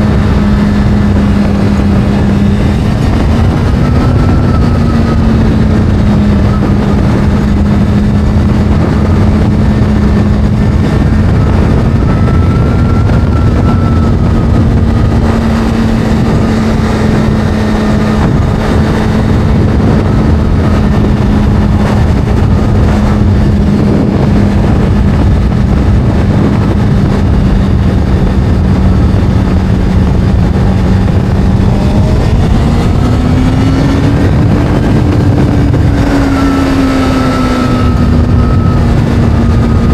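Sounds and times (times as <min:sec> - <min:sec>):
constant rushing noise: 0:00.0 - 0:39.9
motorcycle engine cruising: 0:00.0 - 0:39.9.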